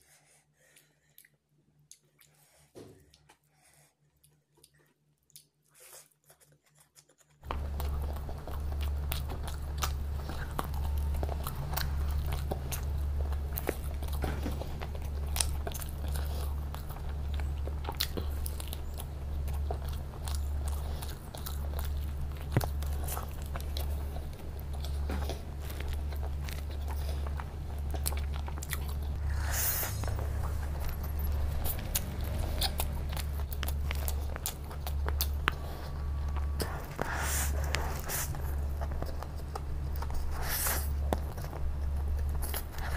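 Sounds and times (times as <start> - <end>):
person chewing and biting food: 4.2 - 42.9
steady low hum: 7.4 - 42.9.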